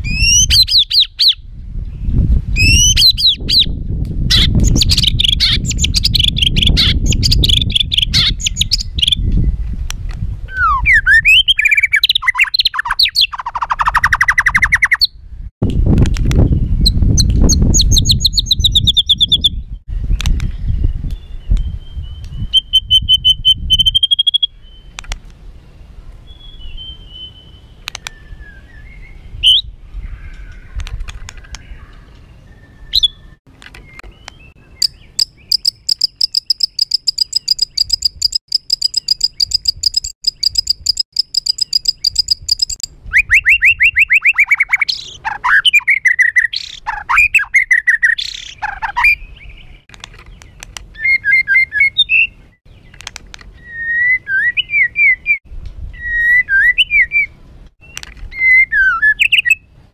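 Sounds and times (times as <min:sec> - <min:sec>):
songbird singing harsh song: 0:00.0 - 0:09.9, 0:10.5 - 0:15.4, 0:16.1 - 0:59.8.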